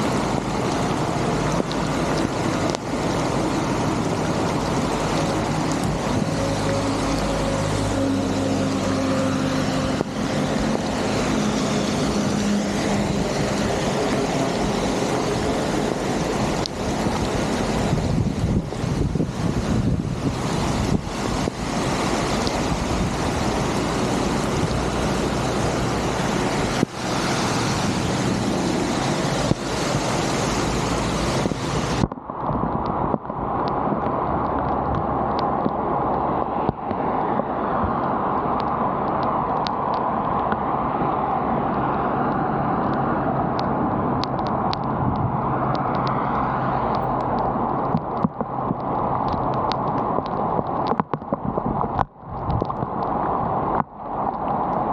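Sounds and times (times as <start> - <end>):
small water splashes: 0.0 - 54.9
water draining from culvert: 0.0 - 54.9.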